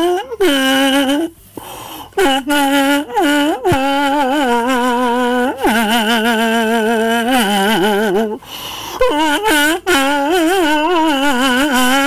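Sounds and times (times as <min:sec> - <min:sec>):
kazoo playing slow melody: 0:00.0 - 0:12.0.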